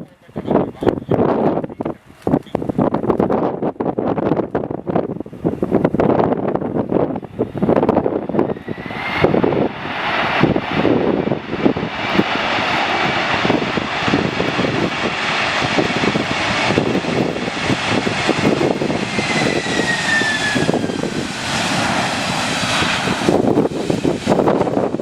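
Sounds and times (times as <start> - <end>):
wind buffeting microphone: 0.0 - 25.0
jet engines roaring and whining: 0.1 - 25.0.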